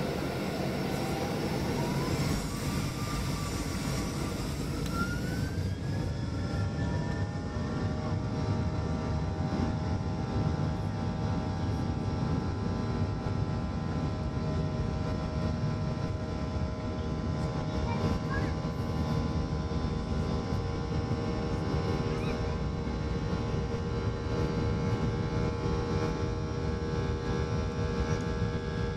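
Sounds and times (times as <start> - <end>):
jet engines rumbling and whining: 0.0 - 28.9.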